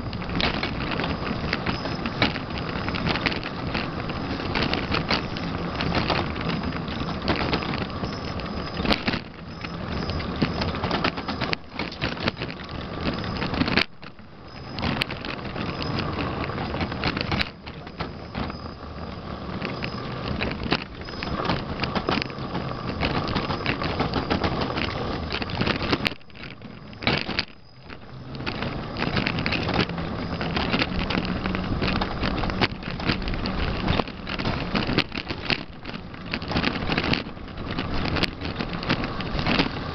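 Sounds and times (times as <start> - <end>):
wheels and motor rattling rush: 0.0 - 39.9
wind noise: 0.0 - 39.9.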